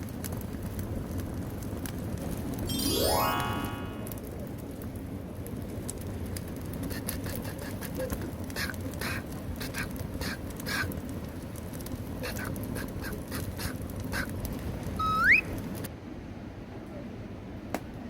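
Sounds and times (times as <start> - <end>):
wood fire crackling and popping: 0.0 - 2.7, 4.1 - 15.9.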